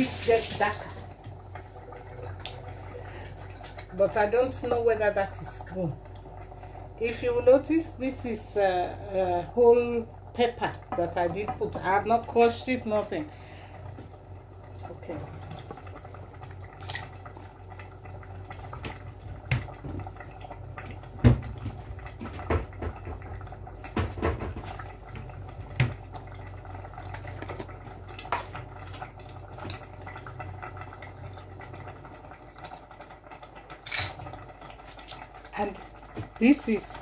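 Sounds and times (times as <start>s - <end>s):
sauce bubbling in a pot: 0.0s - 37.0s.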